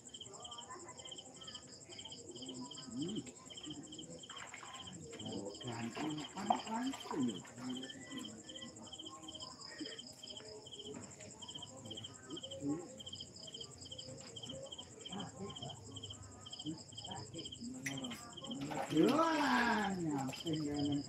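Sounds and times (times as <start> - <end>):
cricket chirps: 0.0 - 21.0.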